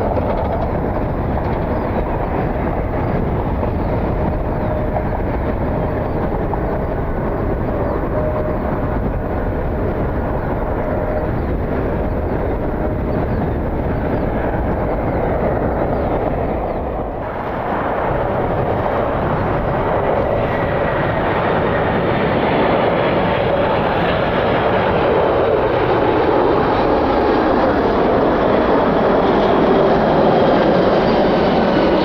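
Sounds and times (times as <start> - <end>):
jet airliner engines rushing: 0.0 - 32.0
wind rumbling on microphone: 0.0 - 32.0.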